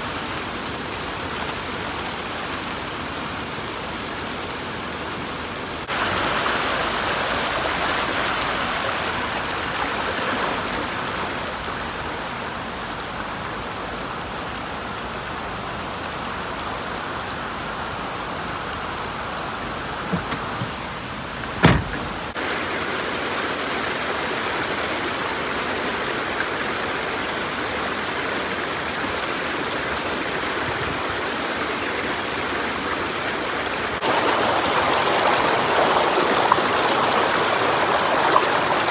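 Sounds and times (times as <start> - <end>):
floodwater rushing: 0.0 - 38.9
heavy rain on water: 0.0 - 38.9.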